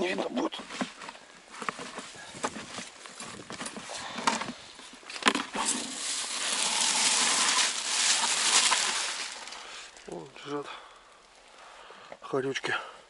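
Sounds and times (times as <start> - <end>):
grass rustling: 0.2 - 11.8.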